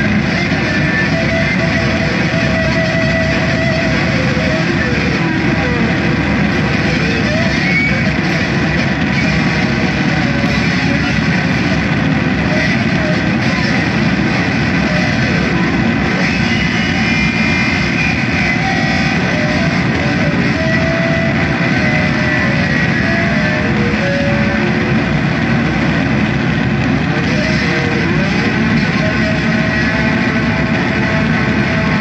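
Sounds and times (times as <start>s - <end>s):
distorted noise music: 0.0s - 32.0s.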